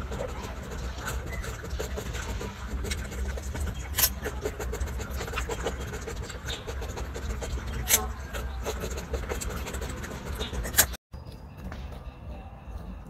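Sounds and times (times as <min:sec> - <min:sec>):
monkey chewing crunchily: 0:00.0 - 0:11.0.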